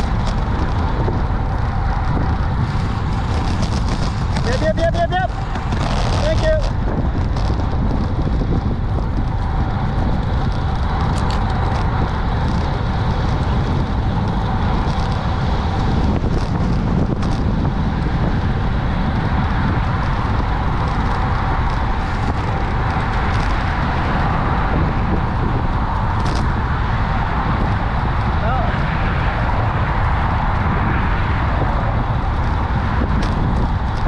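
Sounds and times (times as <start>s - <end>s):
traffic noise: 0.0s - 34.0s
wind on microphone: 0.0s - 34.0s.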